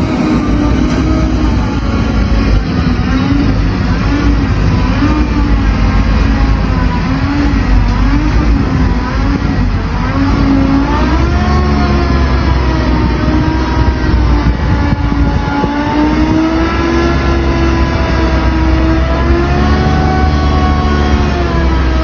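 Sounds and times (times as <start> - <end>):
truck engine revving under load: 0.0 - 22.0.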